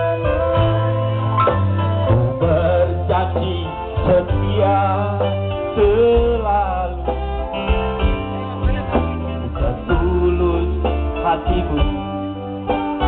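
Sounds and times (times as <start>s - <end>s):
live band playing pop ballad: 0.0s - 13.0s
steady bass notes: 0.0s - 13.0s.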